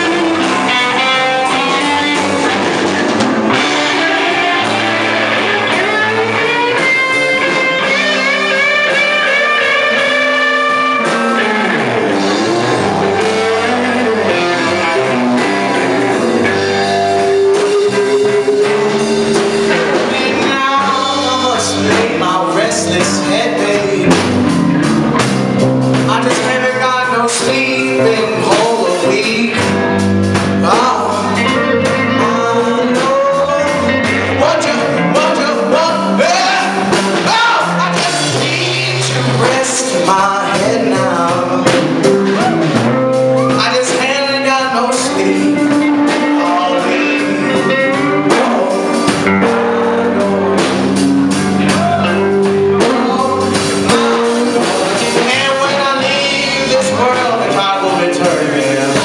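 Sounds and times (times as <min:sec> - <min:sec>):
blues-rock band playing: 0:00.0 - 0:59.0
man singing: 0:00.0 - 0:59.0.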